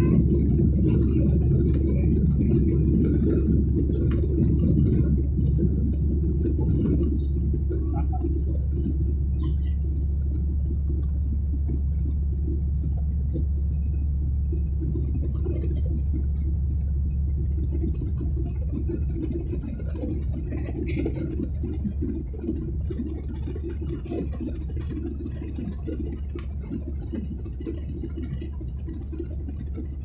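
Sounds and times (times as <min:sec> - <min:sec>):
jet cabin engine rumble: 0:00.0 - 0:30.0.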